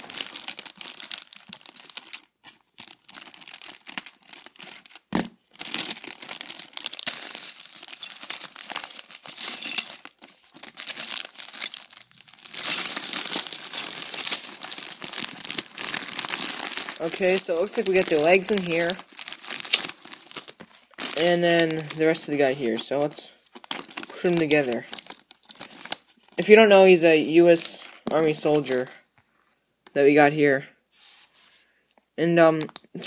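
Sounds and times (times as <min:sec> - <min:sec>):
plastic bag crinkling: 0:00.0 - 0:26.7, 0:27.6 - 0:29.0.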